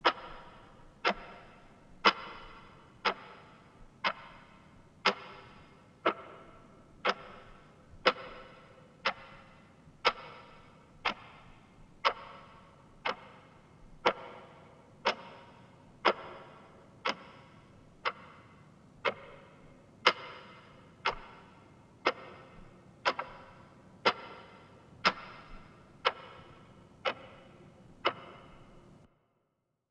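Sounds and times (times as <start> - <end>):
grandfather clock ticking: 0.0 - 11.4, 12.0 - 28.7.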